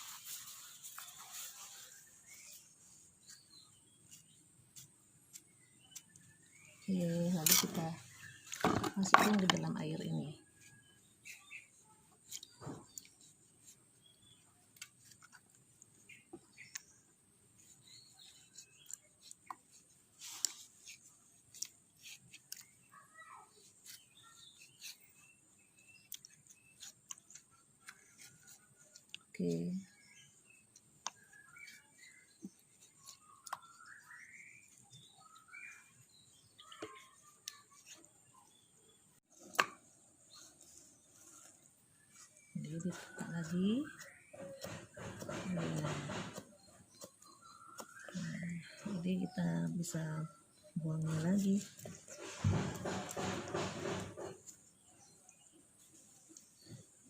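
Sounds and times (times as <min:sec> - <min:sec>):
faint bird chirps: 0:00.0 - 0:57.0
clicks and taps handling leaves: 0:03.2 - 0:17.0, 0:17.6 - 0:23.0, 0:23.6 - 0:38.4, 0:39.4 - 0:54.7.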